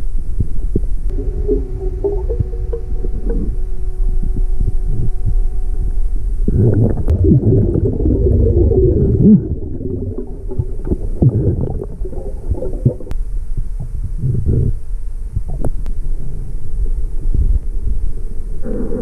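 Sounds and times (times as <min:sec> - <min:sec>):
faint steady hum: 0:00.0 - 0:19.0
underwater rumbling and swishing: 0:00.2 - 0:19.0.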